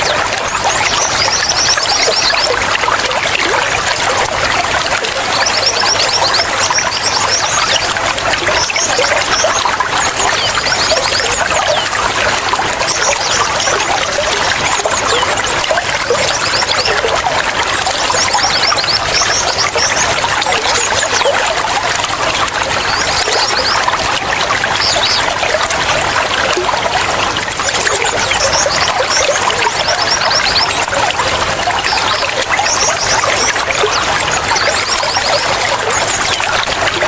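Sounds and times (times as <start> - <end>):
bright water plinks: 0.0 - 37.0
water trickling and splashing: 0.0 - 37.0.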